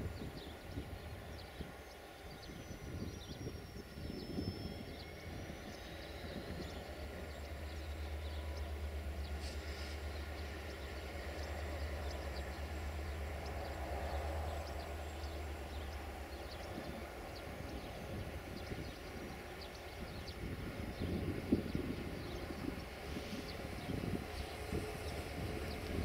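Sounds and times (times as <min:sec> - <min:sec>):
diesel locomotive engine droning: 0:00.0 - 0:26.0.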